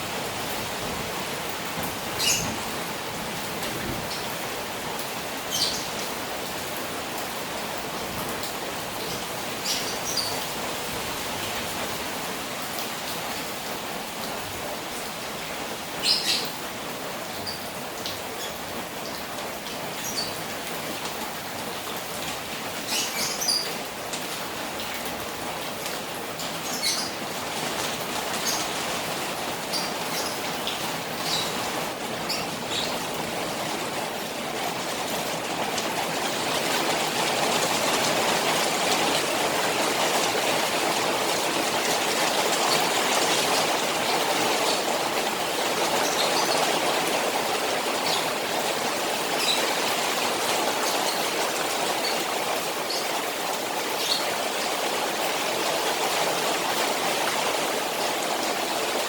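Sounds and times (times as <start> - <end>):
rain falling on a pond: 0.0 - 59.0.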